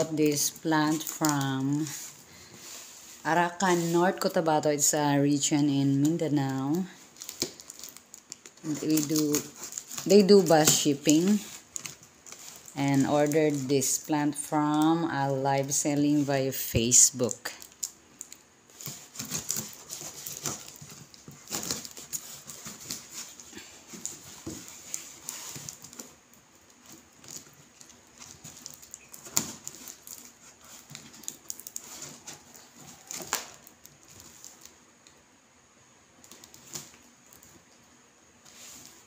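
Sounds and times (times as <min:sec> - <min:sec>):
knife cutting plastic wrap and cardboard: 0:00.0 - 0:34.8.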